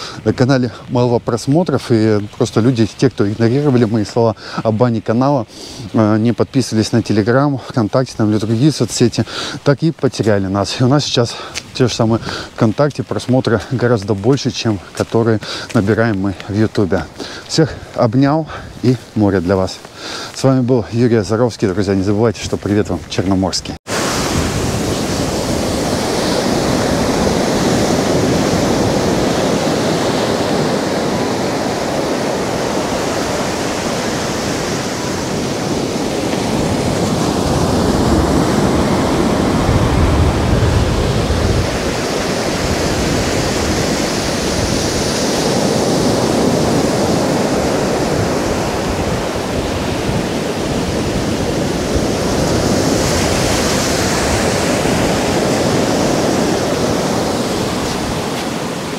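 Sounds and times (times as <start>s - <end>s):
foam washing up on sand: 0.0s - 58.9s
waves breaking: 0.0s - 58.9s.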